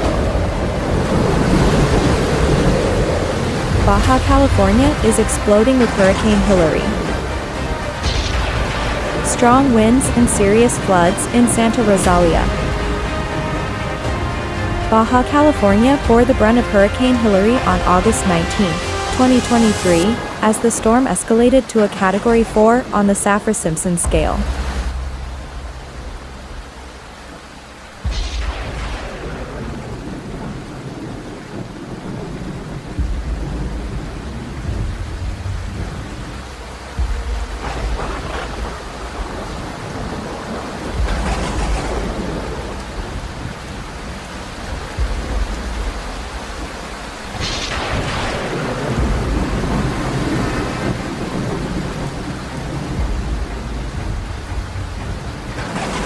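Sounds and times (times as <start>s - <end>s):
thunder crack and rumble: 0.0s - 16.4s, 24.4s - 56.0s
sudden rush of noise: 0.0s - 21.4s, 27.7s - 56.0s
steady rain: 0.0s - 56.0s.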